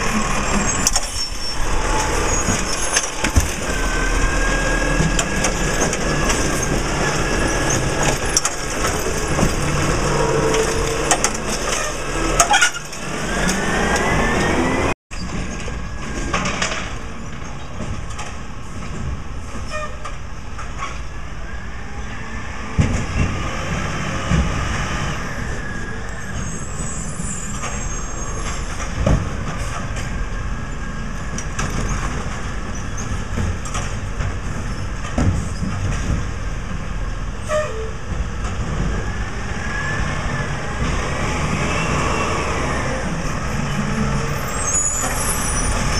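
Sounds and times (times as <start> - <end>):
garbage truck diesel engine: 0.0 - 45.9.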